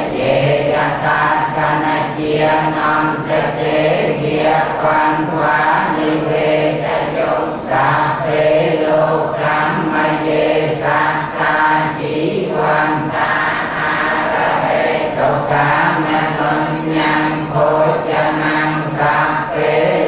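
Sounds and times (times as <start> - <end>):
monks chanting in low monotone: 0.0 - 20.0.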